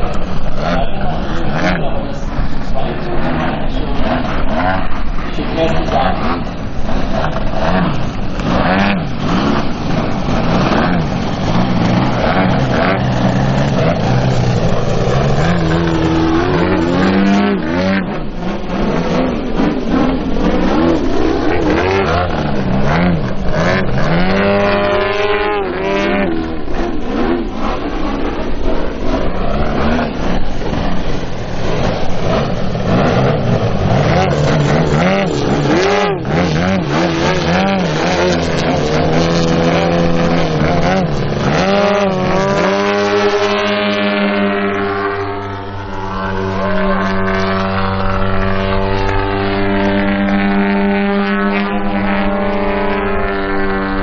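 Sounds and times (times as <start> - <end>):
model plane engines and propellers: 0.0 - 54.0.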